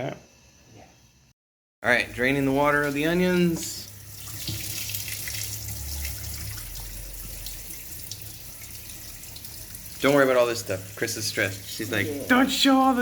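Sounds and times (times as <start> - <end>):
hot water pouring and splashing: 2.0 - 13.0.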